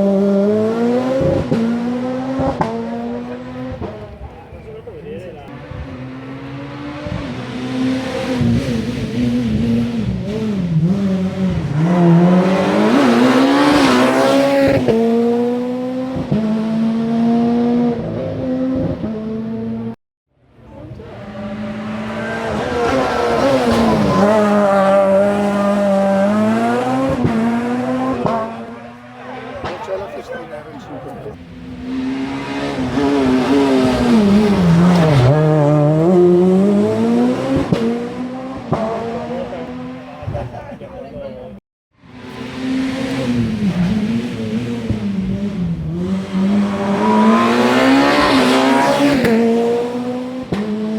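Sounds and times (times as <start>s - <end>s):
rally car engine revving: 0.0s - 20.0s, 20.6s - 50.9s.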